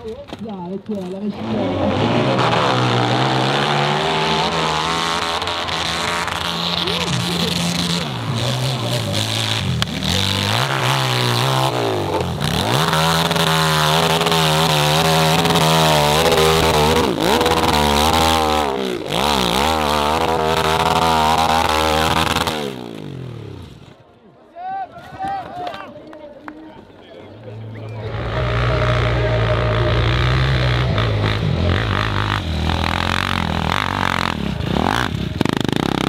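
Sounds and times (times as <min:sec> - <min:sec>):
dirt bike engine revving: 0:01.2 - 0:24.0, 0:27.6 - 0:36.0.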